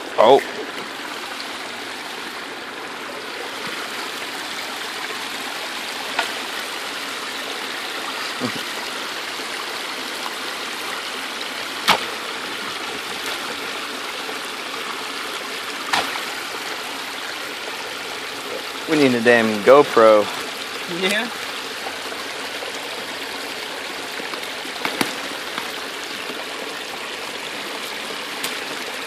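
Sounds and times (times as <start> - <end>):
creek water running and splashing: 0.0 - 29.0.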